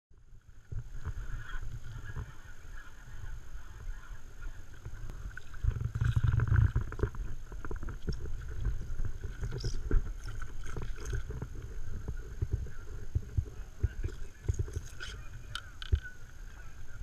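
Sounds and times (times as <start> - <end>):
water splashing against board: 0.6 - 16.7.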